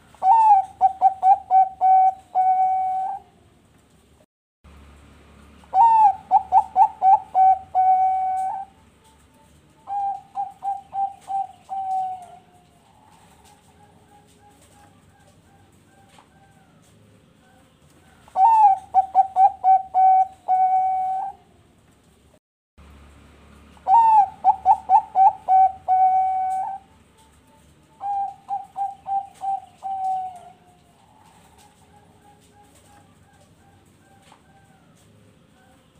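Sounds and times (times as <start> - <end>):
dove cooing: 0.0 - 3.5, 5.6 - 21.6, 23.8 - 35.9.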